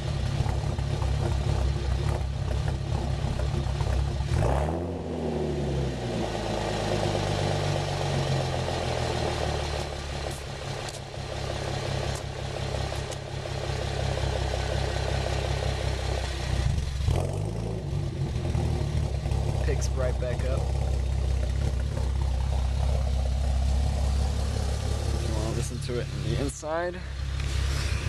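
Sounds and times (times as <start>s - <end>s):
car exhaust revving and idling: 0.0s - 28.0s.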